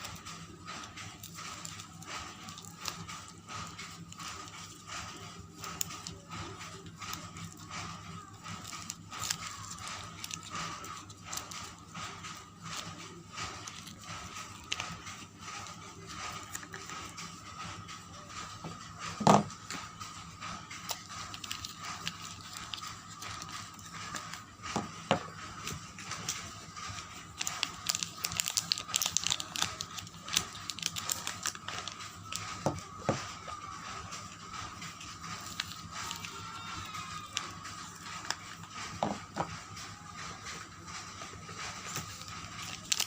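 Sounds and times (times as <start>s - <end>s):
wrappers crinkling and tearing: 0.0s - 17.4s, 20.6s - 39.5s, 41.4s - 43.0s.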